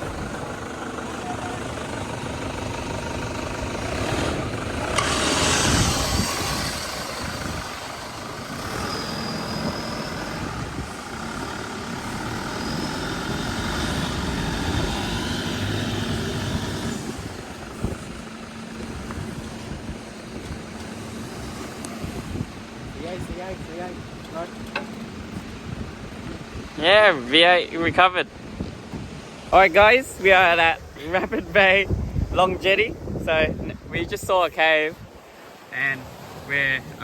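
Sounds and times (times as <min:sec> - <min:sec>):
car engine running: 0:00.0 - 0:30.6.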